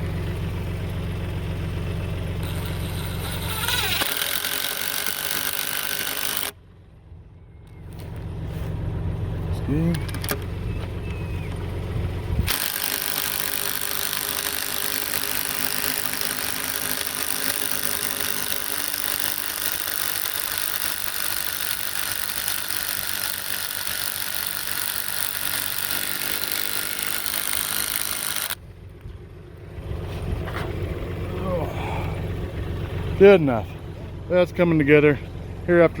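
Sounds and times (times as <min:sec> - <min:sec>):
low machine tones: 0:02.0 - 0:36.0.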